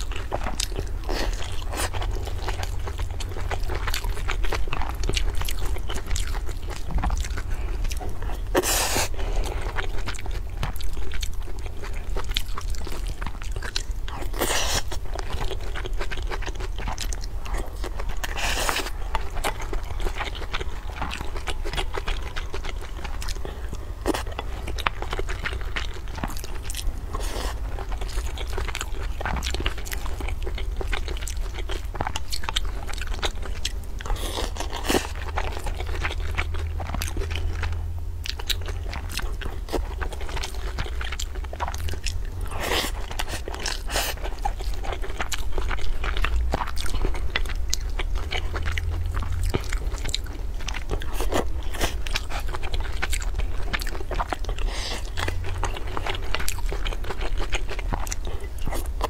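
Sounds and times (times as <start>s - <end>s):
chewing and biting: 0.0s - 59.0s.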